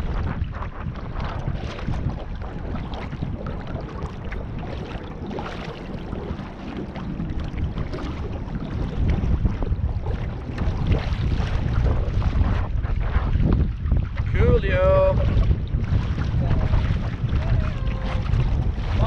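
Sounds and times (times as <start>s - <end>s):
water rushing along canoe hull: 0.0s - 19.0s
wind buffeting microphone: 0.0s - 19.0s.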